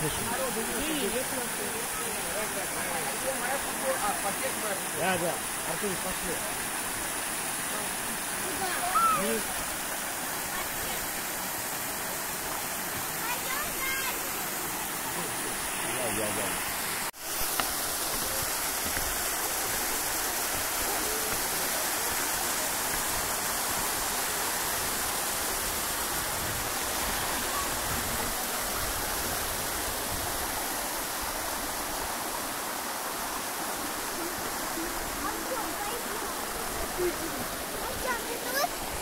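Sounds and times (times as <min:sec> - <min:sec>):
waterfall rushing over rock: 0:00.0 - 0:39.0.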